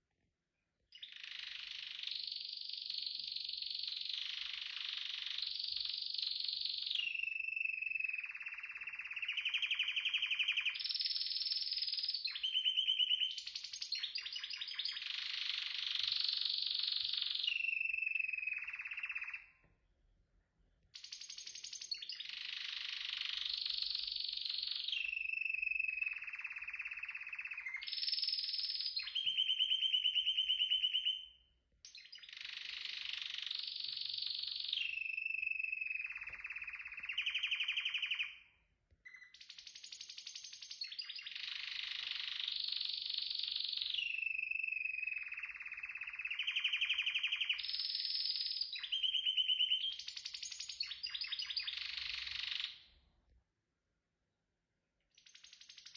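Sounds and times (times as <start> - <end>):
canary singing trills: 0.9 - 19.7, 21.0 - 52.8.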